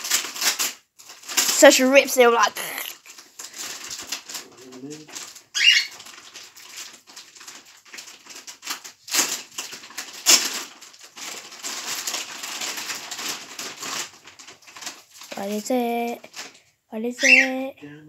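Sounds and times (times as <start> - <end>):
wrapping paper tearing and crumpling: 0.0 - 16.6.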